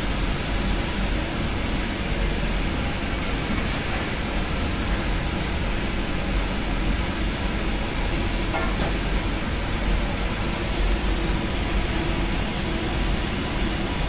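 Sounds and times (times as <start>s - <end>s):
gas burner roar: 0.0s - 14.0s.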